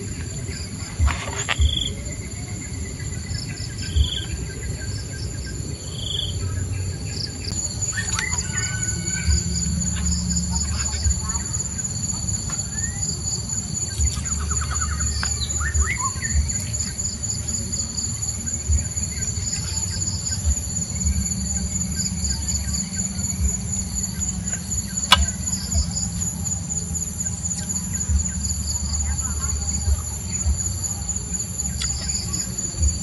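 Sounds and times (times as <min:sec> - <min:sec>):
insects buzzing: 0:00.0 - 0:33.0
low steady rumble: 0:00.0 - 0:33.0.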